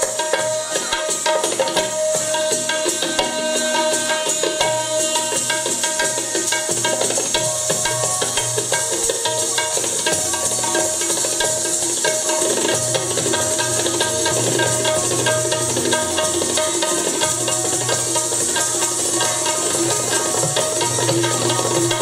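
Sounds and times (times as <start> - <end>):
tabla playing fast rhythm: 0.0 - 22.0.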